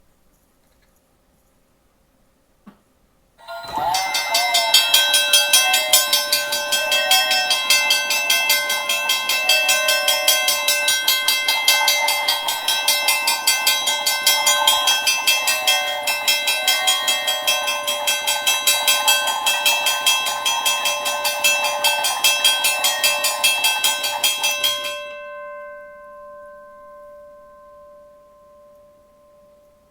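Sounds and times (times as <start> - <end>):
railroad crossing bell ringing: 3.4 - 29.9.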